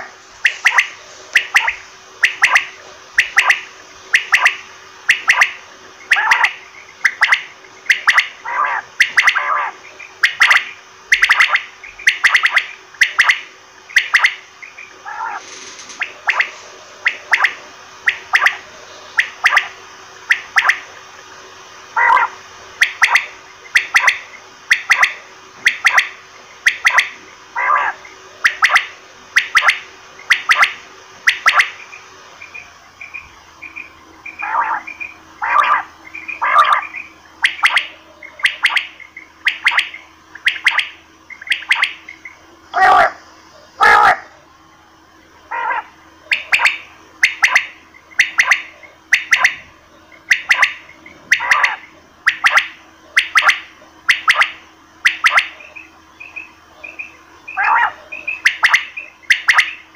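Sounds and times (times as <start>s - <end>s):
quail calling: 0.0s - 20.8s, 21.9s - 44.4s, 45.4s - 59.9s.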